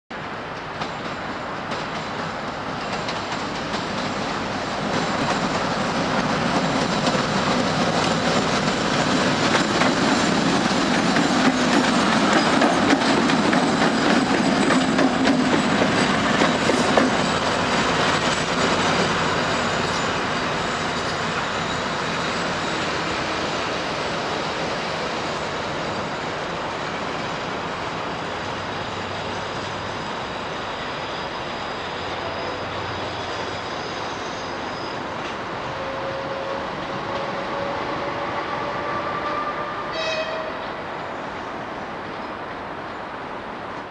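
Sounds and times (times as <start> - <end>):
train wheels clattering on rails: 0.1 - 38.5
diesel locomotive engines running: 0.2 - 43.9.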